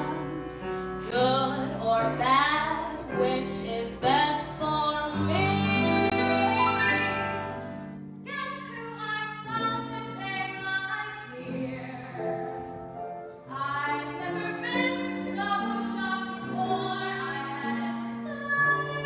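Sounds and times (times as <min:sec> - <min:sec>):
woman singing: 0:00.0 - 0:07.3, 0:08.3 - 0:12.6, 0:13.4 - 0:19.0
musical accompaniment: 0:00.0 - 0:19.0.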